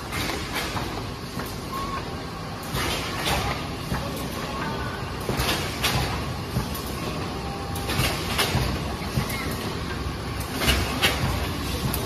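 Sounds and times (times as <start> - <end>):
machine mechanical din: 0.0 - 12.0.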